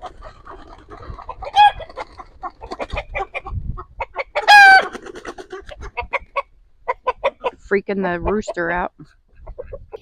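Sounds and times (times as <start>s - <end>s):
chicken squawking: 0.0s - 8.5s, 9.4s - 10.0s
chicken clucking: 0.0s - 10.0s.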